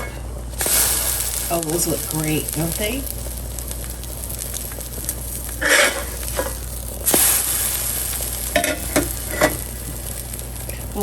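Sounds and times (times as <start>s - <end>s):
french toast sizzling in butter: 0.0s - 11.0s.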